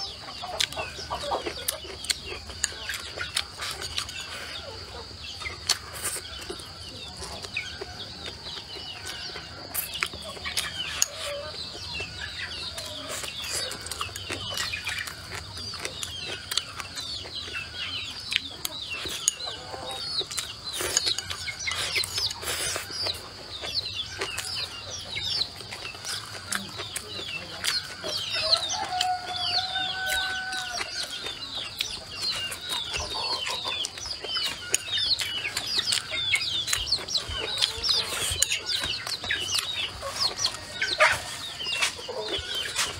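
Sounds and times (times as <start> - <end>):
chickens clucking and peeping: 0.0 - 42.9
chewing: 0.2 - 42.9.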